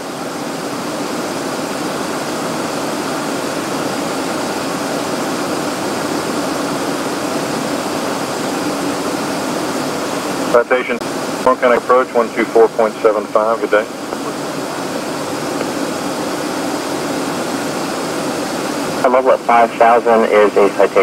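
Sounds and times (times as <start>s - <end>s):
airflow and jet engine noise: 0.0s - 21.0s.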